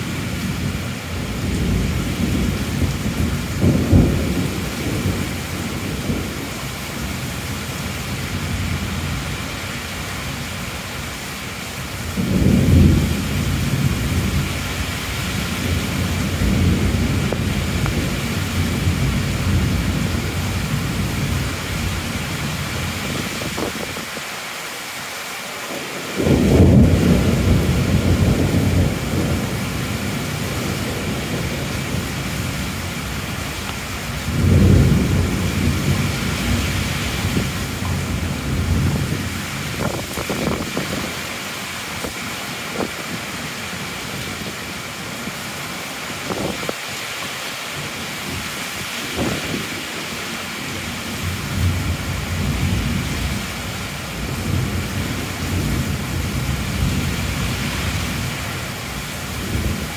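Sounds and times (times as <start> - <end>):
thunder rumbling: 0.0 - 9.4, 12.0 - 24.2, 25.7 - 43.4, 47.8 - 59.9
heavy rain: 0.0 - 59.9.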